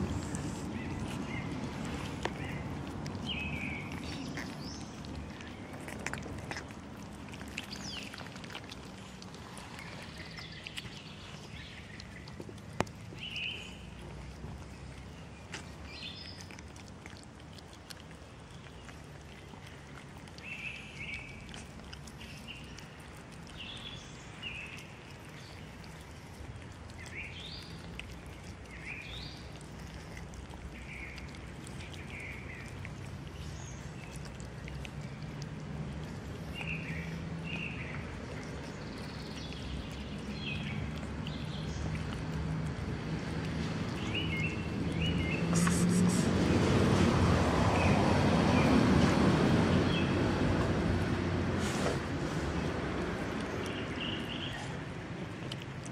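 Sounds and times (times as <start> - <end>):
small birds chirping: 0.0 - 46.8, 47.4 - 55.9
outdoor background noise: 0.0 - 55.9.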